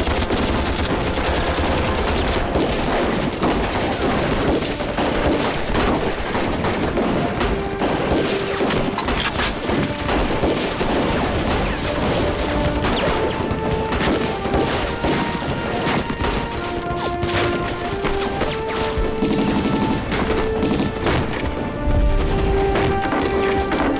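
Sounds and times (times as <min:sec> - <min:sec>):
rapid gunfire volleys: 0:00.0 - 0:23.9.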